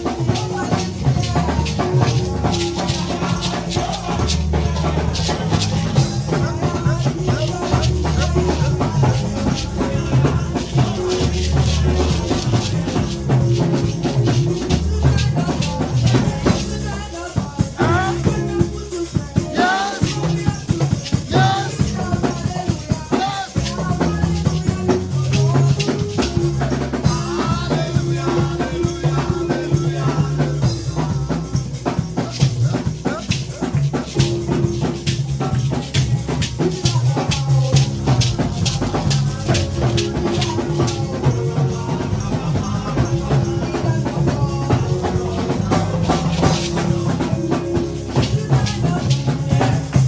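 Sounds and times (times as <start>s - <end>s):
bass line: 0.0s - 50.0s
drum kit: 0.0s - 50.0s
shakers: 0.0s - 50.0s
voices singing: 0.0s - 50.0s.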